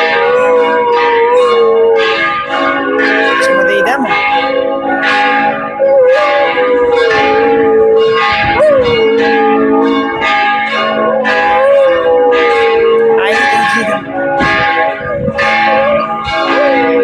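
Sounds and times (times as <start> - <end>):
church bells ringing: 0.0 - 17.0
dog howling: 0.0 - 17.0.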